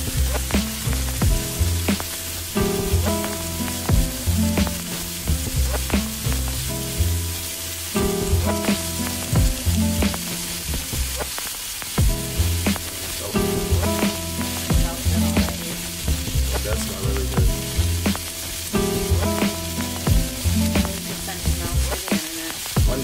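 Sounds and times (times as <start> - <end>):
background music with beat: 0.0 - 23.0
food sizzling in a pan: 0.0 - 23.0.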